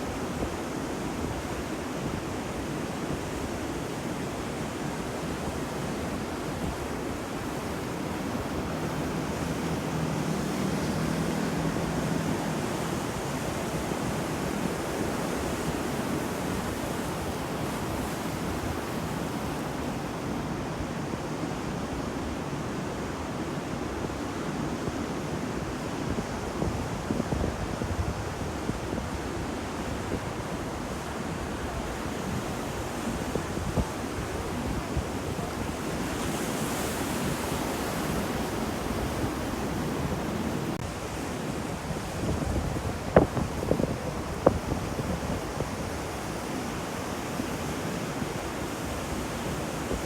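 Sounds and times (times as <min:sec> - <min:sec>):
waves breaking on shore: 0:00.0 - 0:50.0.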